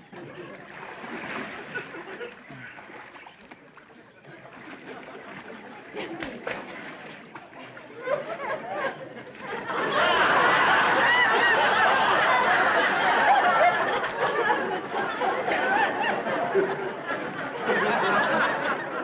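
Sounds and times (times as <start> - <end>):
audience laughing loudly: 0.0 - 3.3, 4.1 - 19.0.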